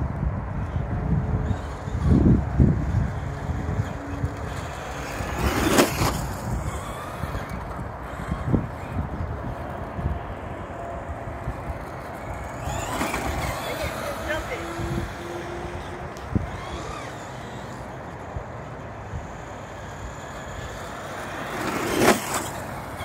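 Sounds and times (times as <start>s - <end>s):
road traffic rumble: 0.0s - 23.0s
vehicle passing: 0.0s - 23.0s.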